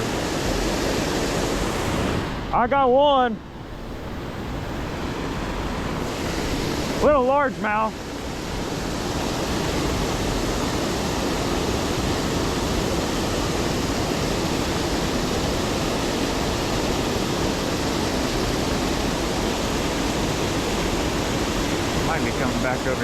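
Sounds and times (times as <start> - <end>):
waterfall rushing: 0.0 - 3.3, 3.9 - 23.0.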